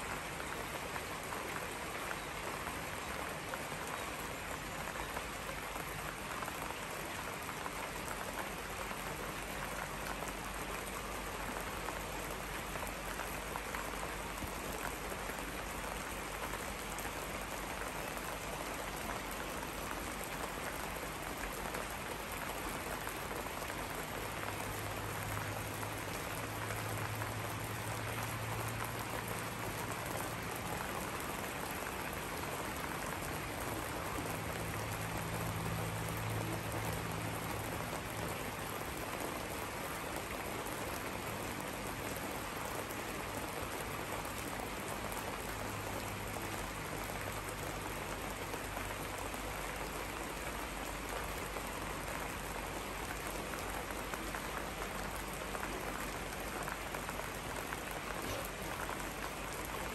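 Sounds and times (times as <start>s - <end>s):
rain on river: 0.0s - 59.9s.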